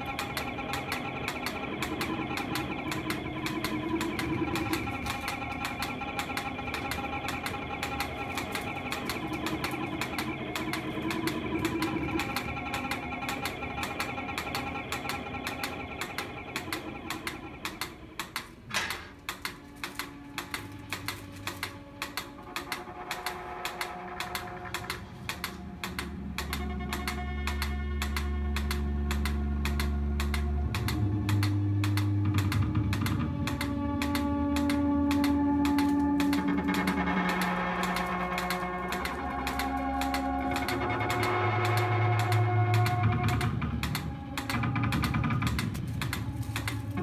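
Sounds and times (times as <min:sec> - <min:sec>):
dense irregular clicking: 0:00.0 - 0:47.0
layered sustained tones: 0:00.0 - 0:47.0.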